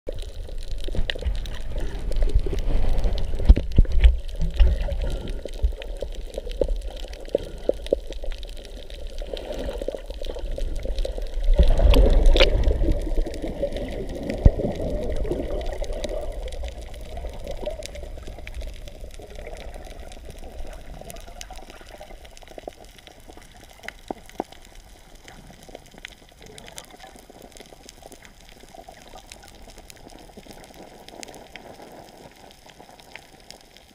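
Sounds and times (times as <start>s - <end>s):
water sloshing and bubbling underwater: 0.1s - 33.9s.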